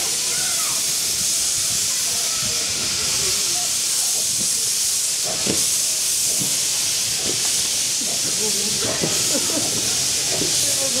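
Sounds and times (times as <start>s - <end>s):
steam locomotive venting steam: 0.0s - 11.0s.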